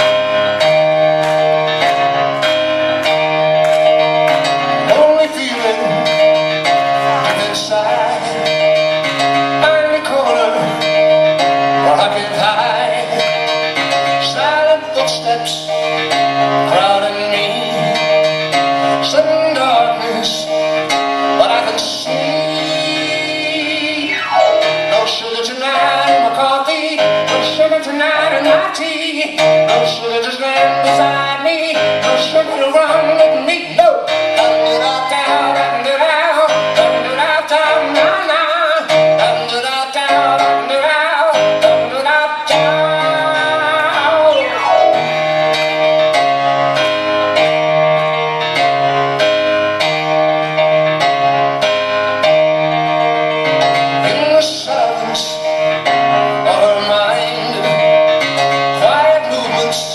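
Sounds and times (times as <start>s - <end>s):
live rock band with piano: 0.0s - 59.9s.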